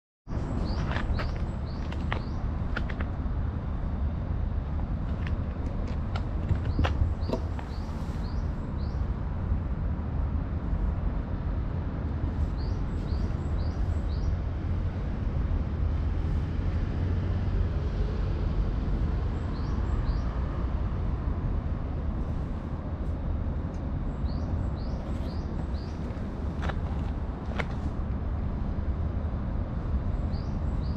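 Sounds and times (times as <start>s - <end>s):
steady low rumble: 0.3s - 30.9s.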